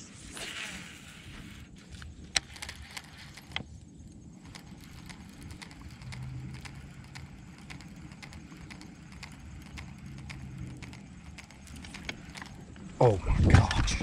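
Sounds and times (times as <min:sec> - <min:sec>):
low steady hum: 0:00.0 - 0:14.0
fishing reel clicking: 0:00.6 - 0:12.8.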